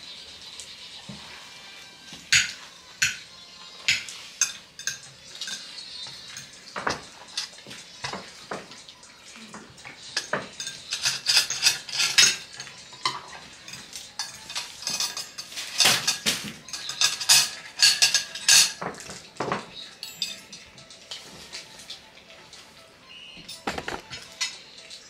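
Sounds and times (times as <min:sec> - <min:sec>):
utensils clinking on dishes: 0:00.1 - 0:25.0.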